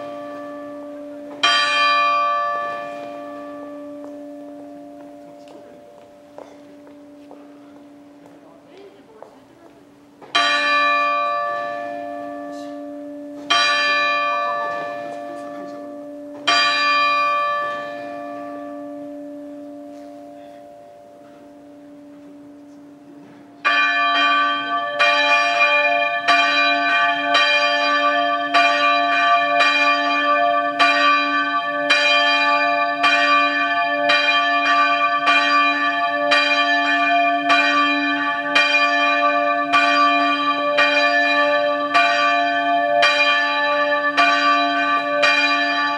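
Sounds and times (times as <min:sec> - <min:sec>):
church bell tolling: 0:00.0 - 0:09.1, 0:10.3 - 0:45.9.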